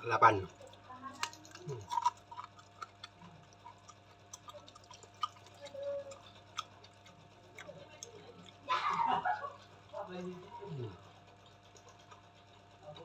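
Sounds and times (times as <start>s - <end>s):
person chewing: 0.4s - 9.8s, 10.4s - 12.4s.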